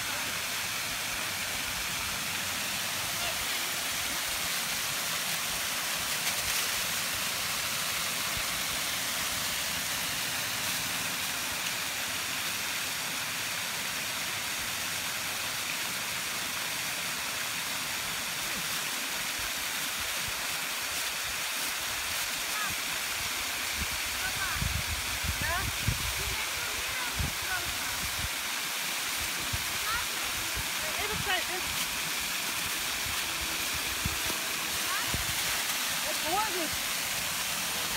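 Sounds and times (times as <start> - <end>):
creek water rushing: 0.0 - 37.9.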